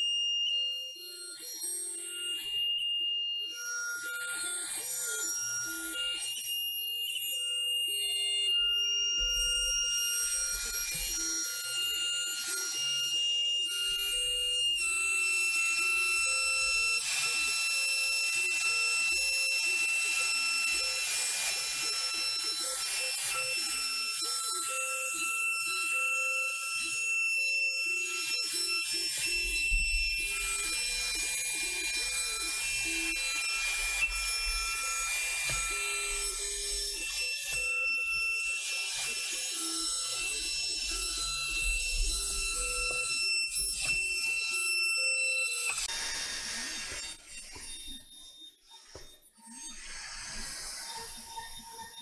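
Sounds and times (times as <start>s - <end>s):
router spindle whining: 7.5s - 52.0s.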